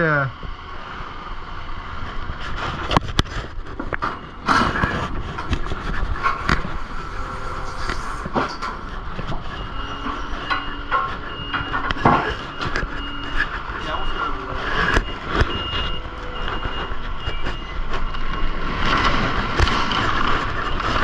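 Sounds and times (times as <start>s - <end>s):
low engine rumble: 0.0s - 18.6s
knocks and clanks: 2.6s - 21.0s.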